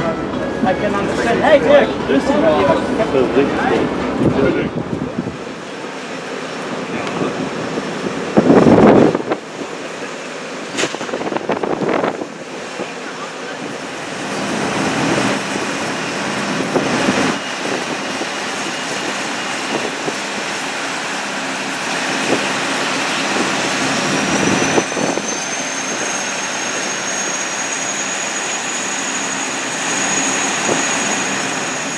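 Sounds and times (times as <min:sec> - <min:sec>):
jet aircraft noise: 0:00.0 - 0:31.9.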